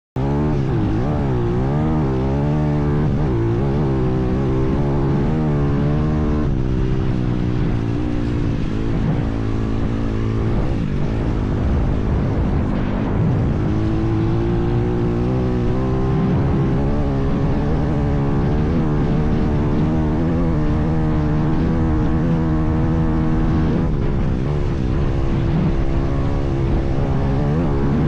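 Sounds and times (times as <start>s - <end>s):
motorbike engine revving: 0.2s - 28.0s.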